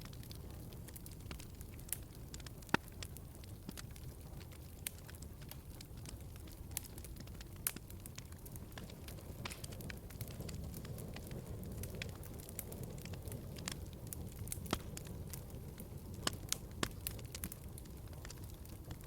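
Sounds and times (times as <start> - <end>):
low rumble of flames: 0.0 - 19.0
sharp pops of fire: 0.0 - 19.0
wood fire crackling: 0.0 - 19.0.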